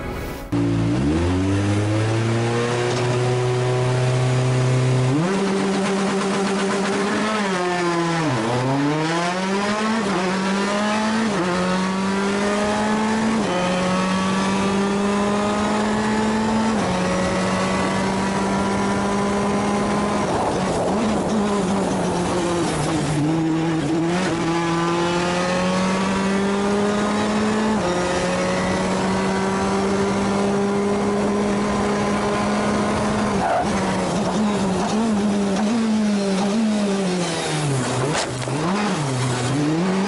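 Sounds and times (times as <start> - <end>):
rally car engine accelerating: 0.5 - 40.0.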